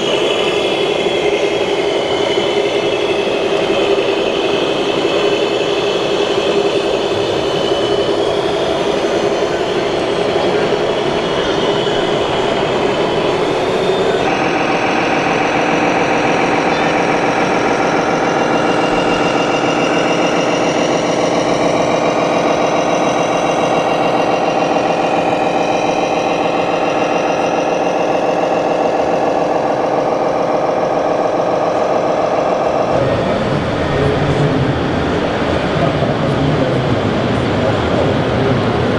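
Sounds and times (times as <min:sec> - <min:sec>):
model truck engine running: 0:00.0 - 0:38.9.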